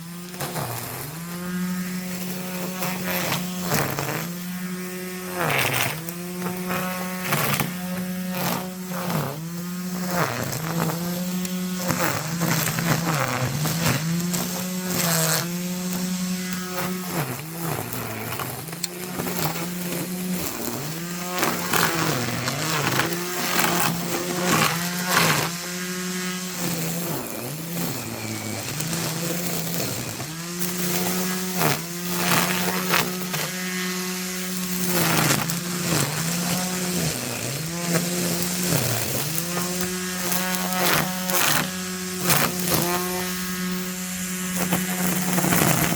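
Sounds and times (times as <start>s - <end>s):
brushcutter engine running: 0.0s - 45.9s
cutting head swishing grass: 0.2s - 45.9s.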